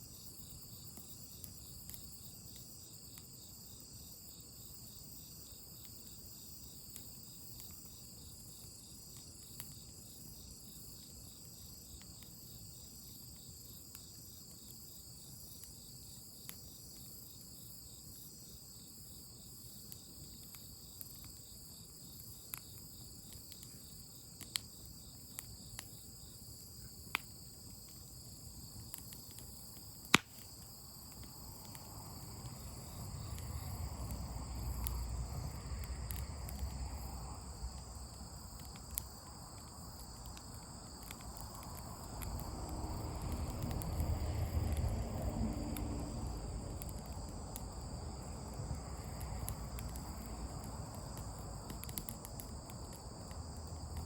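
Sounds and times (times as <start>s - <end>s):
campfire crackling: 0.0s - 54.0s
crickets trilling: 0.0s - 54.0s.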